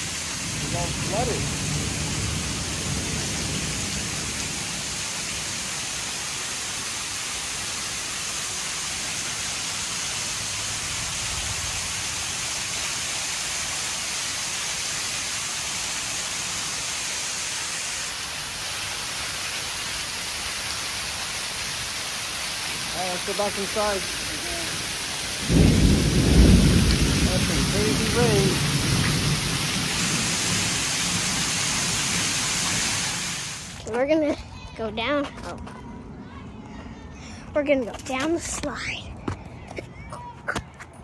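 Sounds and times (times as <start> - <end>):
heavy rain pouring: 0.0 - 35.2.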